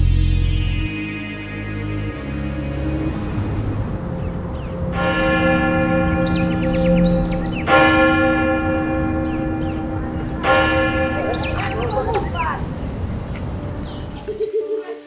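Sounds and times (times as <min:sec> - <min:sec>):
church bell ringing: 0:01.2 - 0:14.3.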